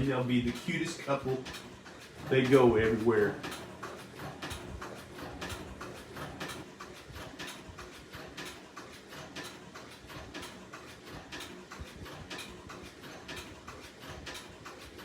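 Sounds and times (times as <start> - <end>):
sewing machine stitching leather: 0.0 - 15.0.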